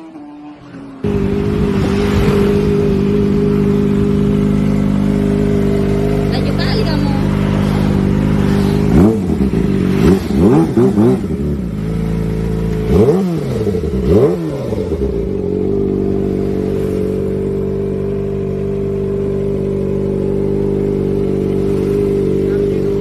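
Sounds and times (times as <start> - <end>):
motorcycle engine revving: 0.0 - 23.0
motorcycle engine idling: 1.0 - 23.0.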